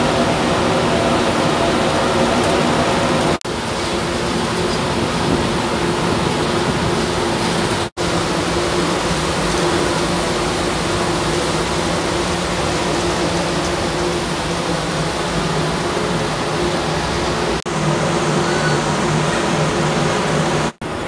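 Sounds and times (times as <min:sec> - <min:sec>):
ship engines humming: 0:00.0 - 0:21.0
ship wake rushing: 0:00.0 - 0:21.0.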